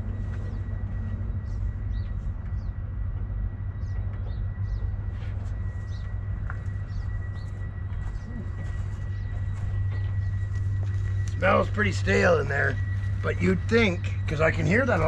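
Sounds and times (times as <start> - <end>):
electric fuel pump humming: 0.0 - 15.0
small birds chirping: 0.3 - 15.0.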